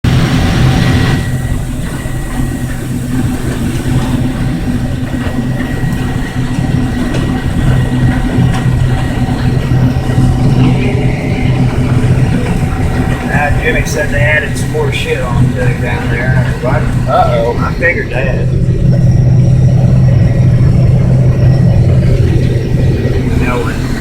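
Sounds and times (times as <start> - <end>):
combine engine hum: 0.0 - 24.0
steady machine whine: 0.0 - 24.0.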